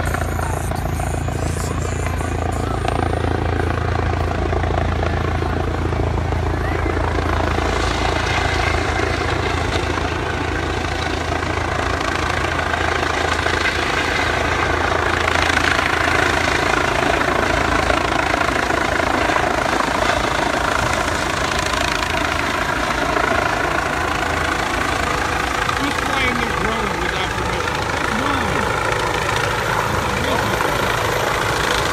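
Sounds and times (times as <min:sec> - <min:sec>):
helicopter rotor and engine: 0:00.0 - 0:31.9.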